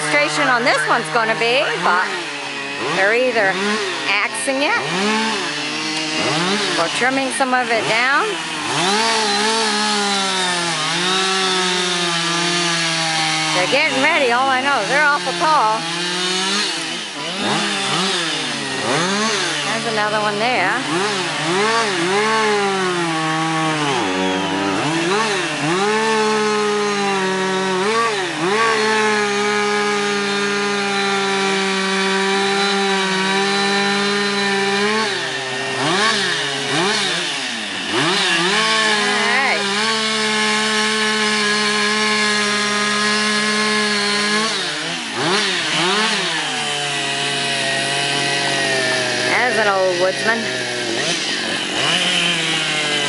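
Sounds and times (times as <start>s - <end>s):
chainsaw revving: 0.0s - 53.0s.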